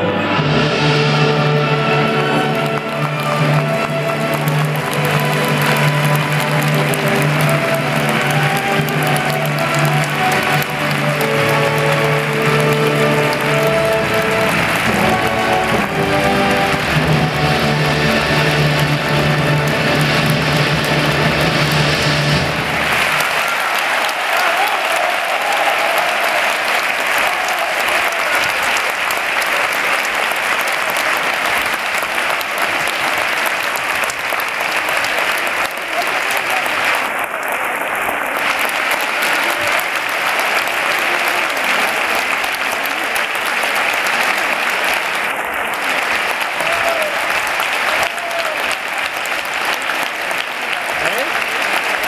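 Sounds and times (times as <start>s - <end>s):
audience applauding: 0.0s - 52.0s.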